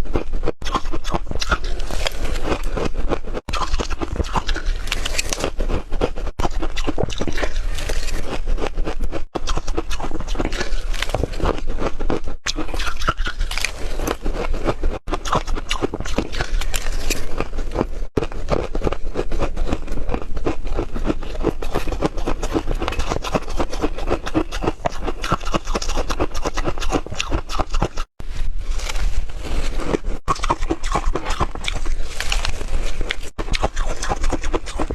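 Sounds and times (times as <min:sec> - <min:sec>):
person crunching ice: 0:00.0 - 0:28.1, 0:28.7 - 0:34.9.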